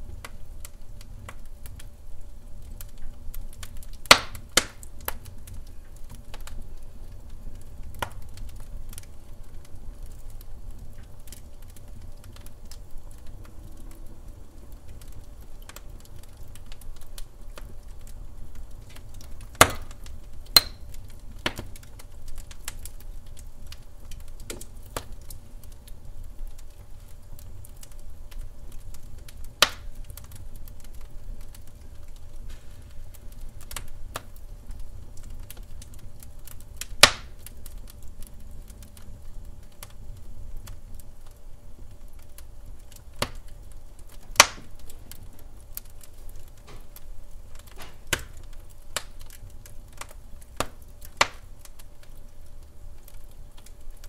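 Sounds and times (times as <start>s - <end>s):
loud fire snaps: 0.0s - 54.0s
wood fire crackling: 0.0s - 54.0s.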